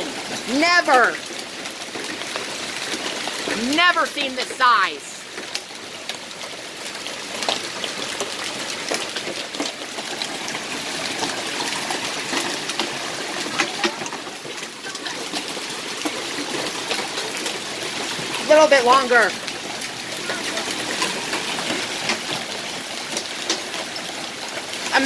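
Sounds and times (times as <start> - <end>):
hailstones striking: 0.0 - 25.0
heavy rain and running water: 0.0 - 25.0.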